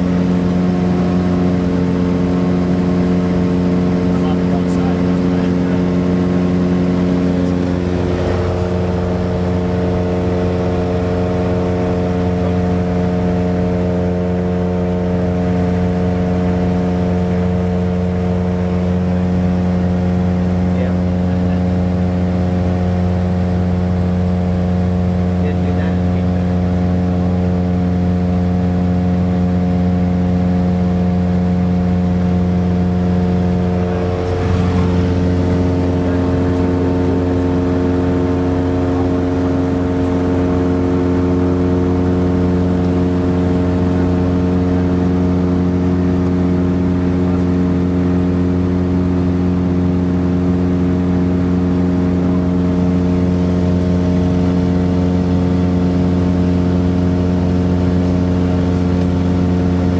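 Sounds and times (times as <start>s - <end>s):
propeller plane engines droning: 0.0s - 59.9s.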